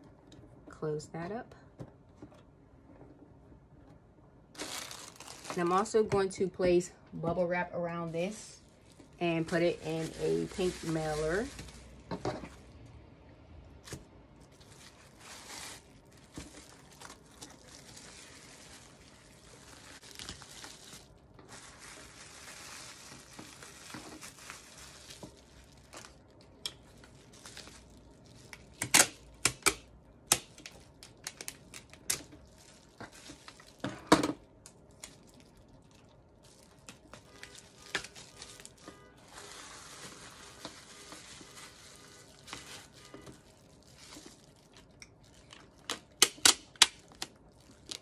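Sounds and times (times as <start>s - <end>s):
bubble wrap crinkling: 4.5s - 6.8s, 7.4s - 13.0s, 13.7s - 48.0s.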